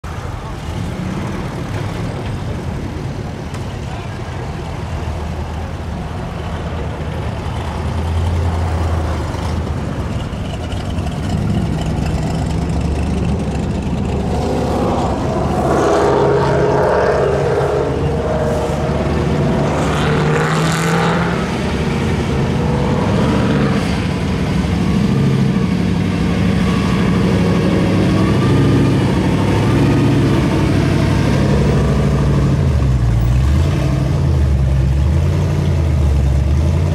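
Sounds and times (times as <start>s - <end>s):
loud car engines passing: 0.0s - 36.9s.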